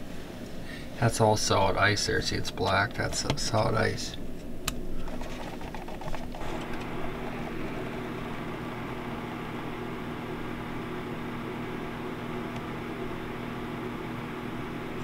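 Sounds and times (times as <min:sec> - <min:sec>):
fan motor humming: 0:00.0 - 0:15.0.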